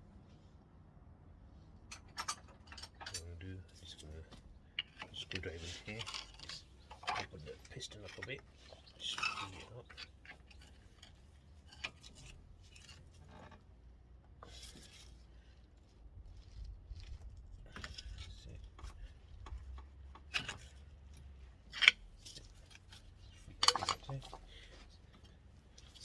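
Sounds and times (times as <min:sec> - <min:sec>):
hand tools clicking and scraping: 0:02.0 - 0:13.7, 0:16.5 - 0:26.0.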